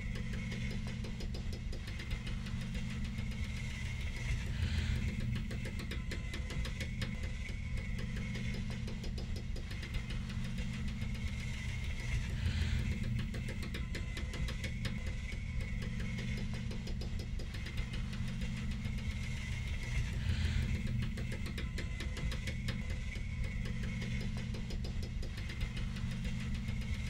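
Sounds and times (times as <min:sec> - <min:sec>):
low mechanical drone with rattle: 0:00.0 - 0:27.0.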